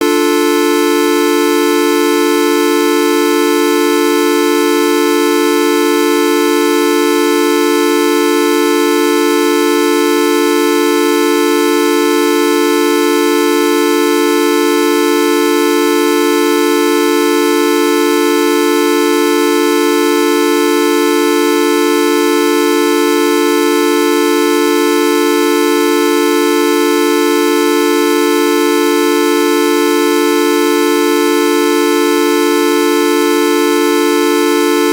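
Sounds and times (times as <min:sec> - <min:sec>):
continuous horn-like buzzing tone: 0:00.0 - 0:34.9.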